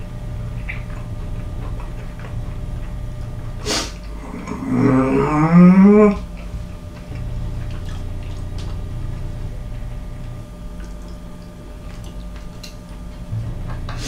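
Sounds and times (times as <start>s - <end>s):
eating mouth sounds: 0.0s - 14.0s
steady low hum: 0.0s - 14.0s.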